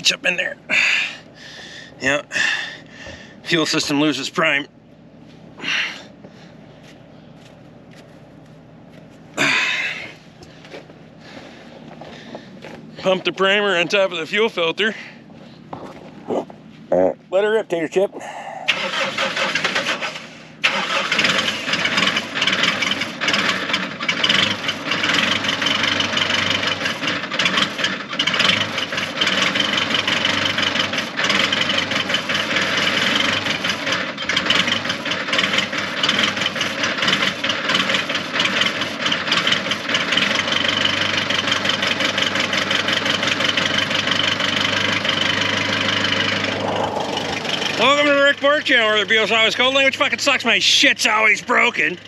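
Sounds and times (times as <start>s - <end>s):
diesel tractor engine clattering: 0.0s - 16.8s, 18.7s - 52.0s.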